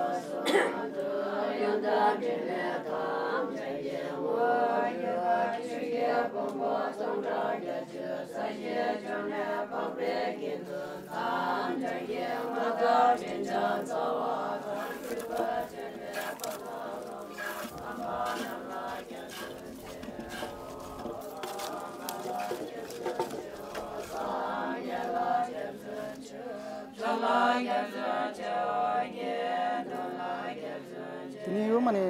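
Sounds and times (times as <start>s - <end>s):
group chanting prayers: 0.0s - 31.8s.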